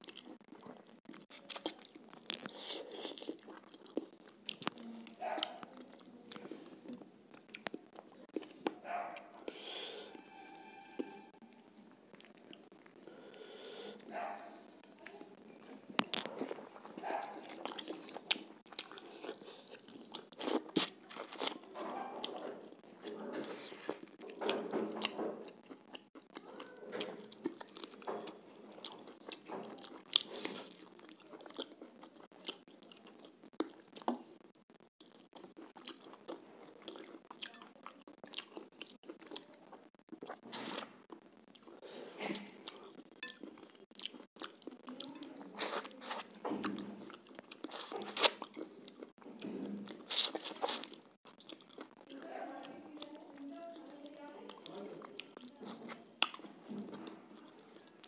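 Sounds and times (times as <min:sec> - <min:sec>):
chewing and crunching: 0:00.0 - 0:09.8, 0:11.0 - 0:58.0.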